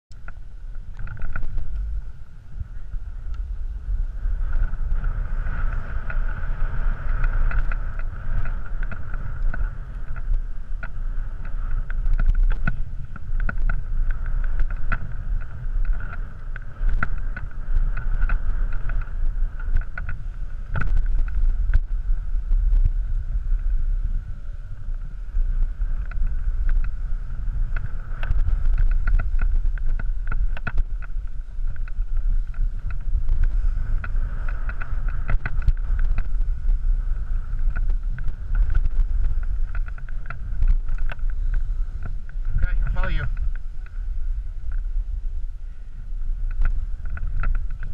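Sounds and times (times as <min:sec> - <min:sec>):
wind buffeting microphone: 0:00.1 - 0:47.9
ski edges scraping and clicking: 0:00.2 - 0:45.3, 0:46.3 - 0:47.9.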